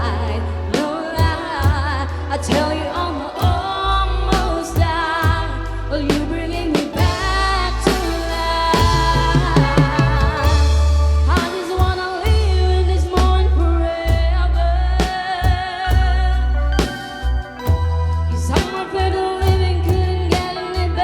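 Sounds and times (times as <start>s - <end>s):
pop ballad band music: 0.0s - 21.0s.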